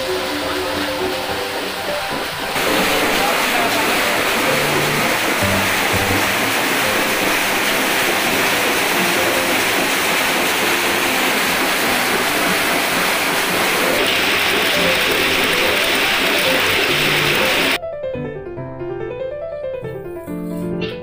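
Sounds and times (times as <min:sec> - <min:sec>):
loud steady hiss: 0:00.0 - 0:17.8.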